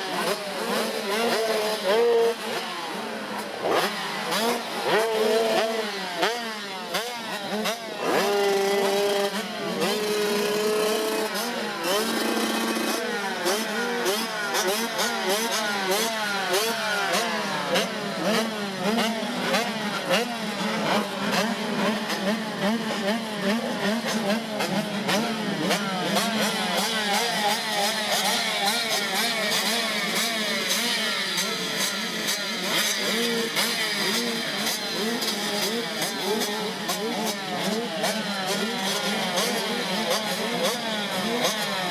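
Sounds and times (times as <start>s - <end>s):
dirt bikes revving: 0.0s - 41.9s.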